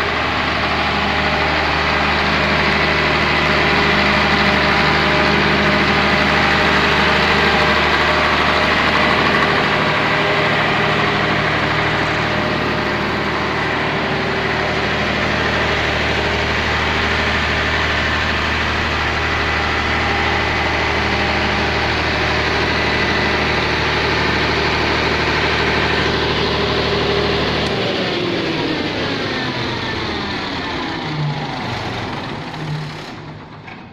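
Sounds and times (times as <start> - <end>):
diesel generator running: 0.0 - 33.9.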